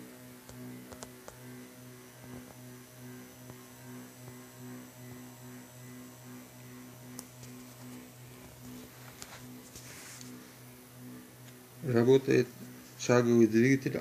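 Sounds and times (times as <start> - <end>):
stepper motor humming: 0.0 - 14.0.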